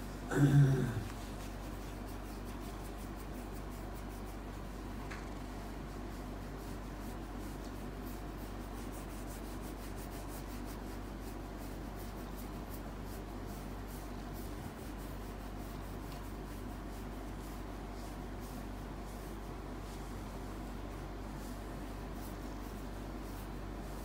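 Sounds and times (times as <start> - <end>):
fingers rubbing through fur: 1.0 - 24.0.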